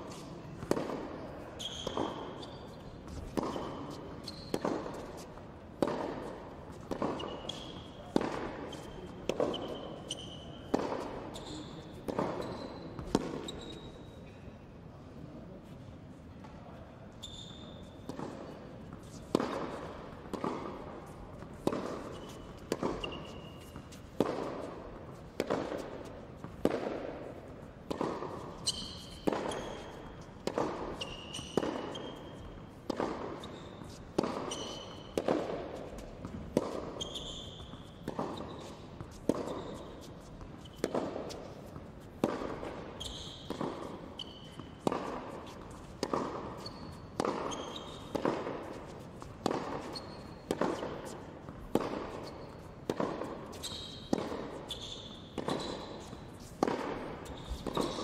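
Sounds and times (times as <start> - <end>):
shoes squeaking on court: 0.0 - 14.5, 16.4 - 58.0
tennis racket hits and ball bounces: 0.1 - 13.9, 17.8 - 58.0.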